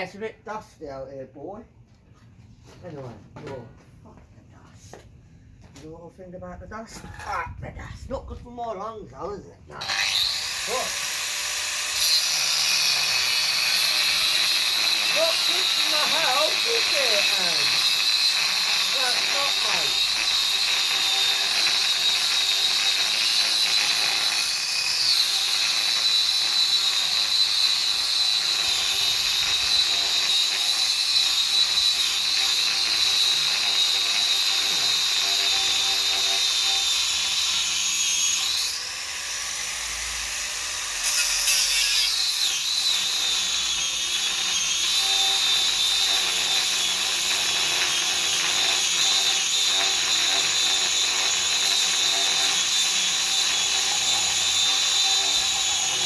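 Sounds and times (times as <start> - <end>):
angle grinder cutting metal: 9.8 - 56.0.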